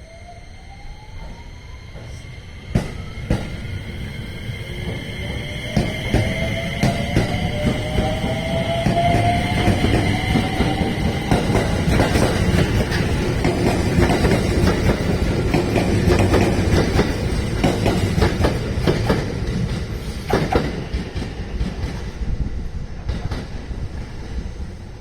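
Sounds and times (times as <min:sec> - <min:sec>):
electric train pulling away: 0:00.0 - 0:21.6.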